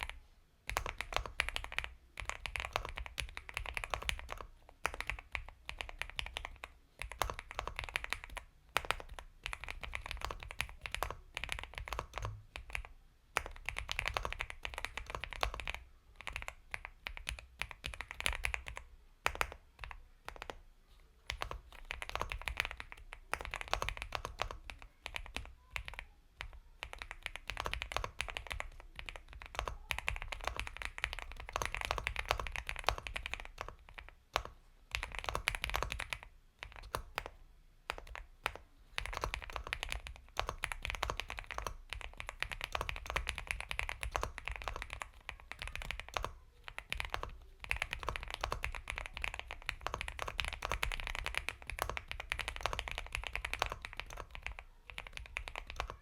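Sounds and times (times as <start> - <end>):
fast typing on mechanical keyboard: 0.0 - 20.6, 21.3 - 56.0.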